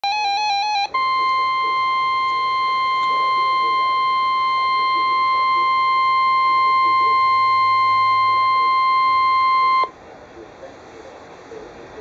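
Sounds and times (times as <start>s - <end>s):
high warning alert tone: 0.0s - 9.9s.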